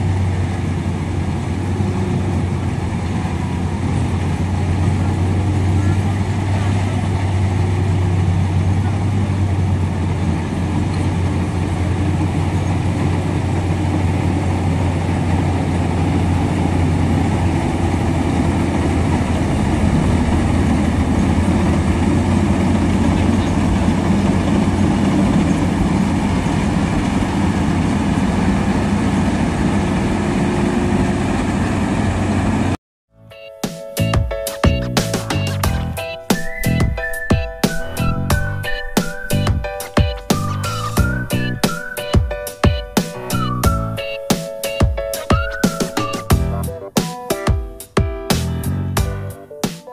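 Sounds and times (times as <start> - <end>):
combine harvester engine drone: 0.0 - 32.8, 34.8 - 44.3.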